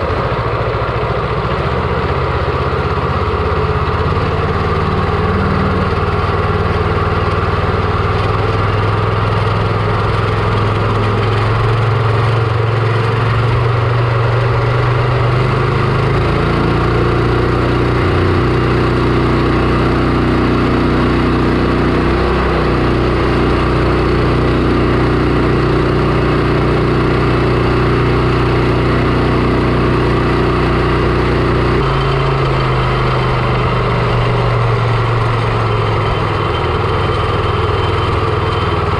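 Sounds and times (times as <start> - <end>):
boat motor running: 0.0 - 38.9.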